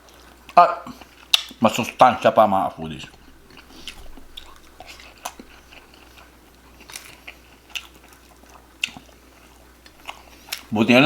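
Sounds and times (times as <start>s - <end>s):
person chewing food: 0.0s - 2.2s, 3.0s - 10.8s.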